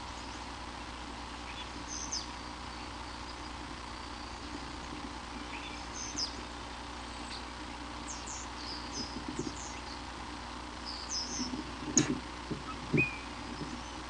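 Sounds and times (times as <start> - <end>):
low electrical hum: 0.0 - 14.0
small birds chirping: 0.0 - 14.0
steady hiss: 0.0 - 14.0.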